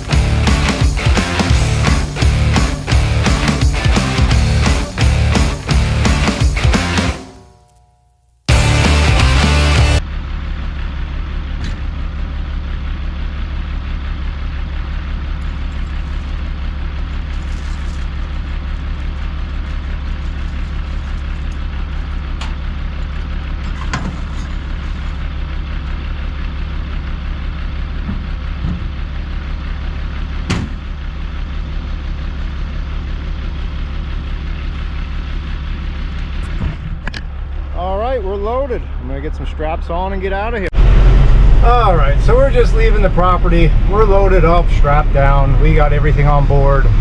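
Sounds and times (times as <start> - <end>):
truck engine running: 0.0 - 7.4, 8.5 - 47.0.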